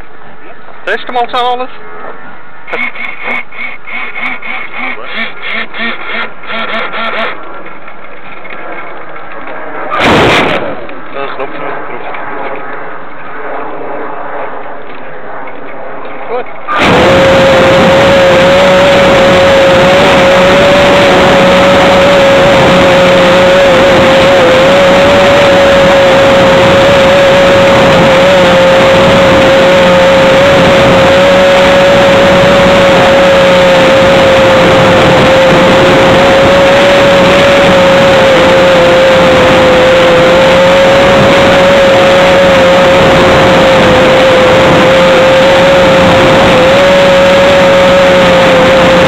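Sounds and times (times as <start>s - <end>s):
wind rush: 0.0s - 49.0s
model airplane motor and propeller: 2.7s - 10.0s, 10.8s - 49.0s.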